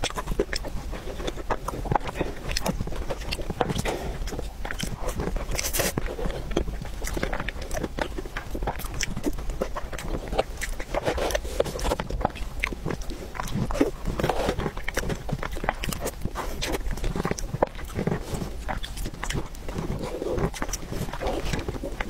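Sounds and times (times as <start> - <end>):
wet mouth smacking and chewing: 0.0 - 22.0.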